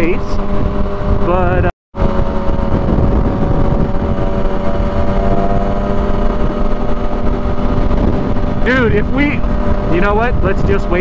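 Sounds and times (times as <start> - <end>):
motorcycle engine cruising: 0.0 - 11.0
wind rumbling on microphone: 0.0 - 11.0.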